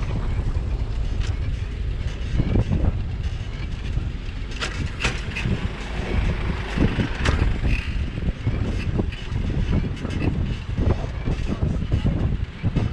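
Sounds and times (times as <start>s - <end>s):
bicycle knocks and rattles: 0.0s - 12.9s
low rumble of bicycle ride: 0.0s - 12.9s.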